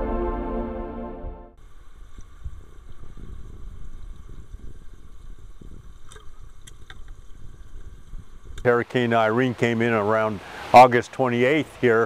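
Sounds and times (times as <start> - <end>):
moving water rumble: 1.6 - 12.0.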